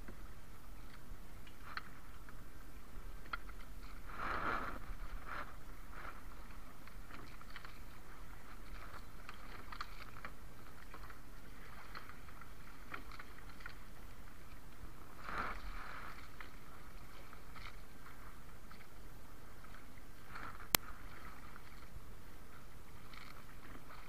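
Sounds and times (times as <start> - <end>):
water lapping and splashing: 0.0 - 24.0.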